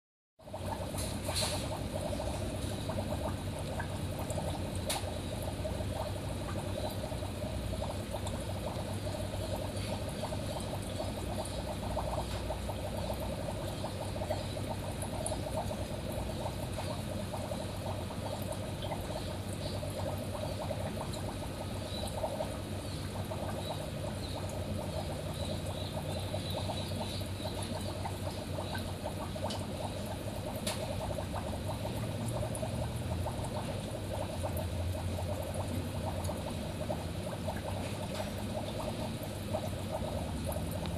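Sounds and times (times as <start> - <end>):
aquarium water trickling: 0.4 - 40.9
low steady hum: 0.4 - 40.9.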